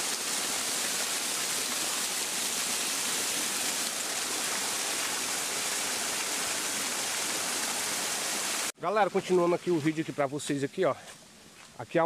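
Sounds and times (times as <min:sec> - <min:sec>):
small waterfall splashing: 0:00.0 - 0:10.7.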